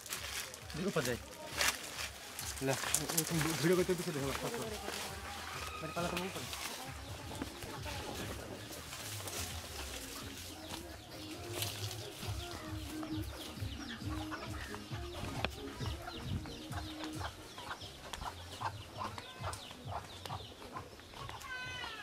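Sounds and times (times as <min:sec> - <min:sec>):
birds chirping: 0:00.0 - 0:22.0
chickens clucking: 0:00.5 - 0:22.0.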